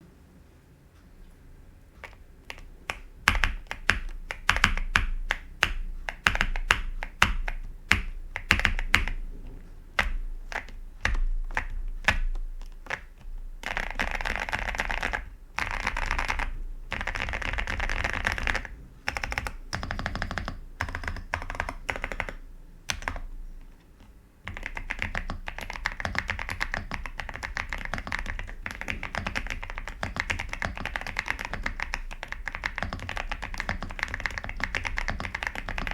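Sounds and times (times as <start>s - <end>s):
typing on mechanical keyboard: 2.0s - 9.3s, 9.9s - 35.9s.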